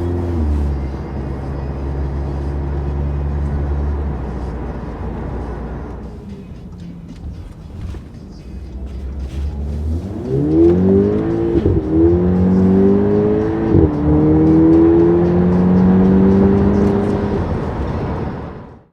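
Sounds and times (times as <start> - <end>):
car exhaust accelerating hard: 0.0 - 6.1, 7.2 - 18.9.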